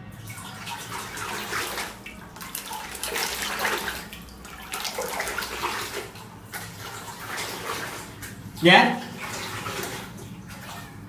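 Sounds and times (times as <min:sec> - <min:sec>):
water gushing and splashing: 0:00.0 - 0:11.0.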